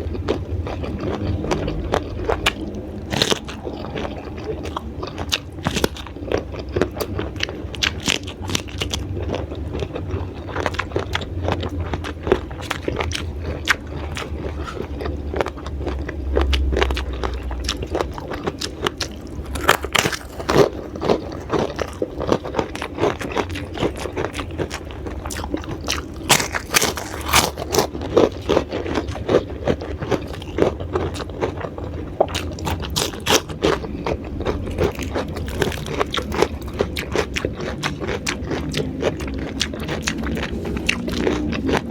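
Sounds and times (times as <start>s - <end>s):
crunching and chewing vegetables: 0.0s - 41.9s.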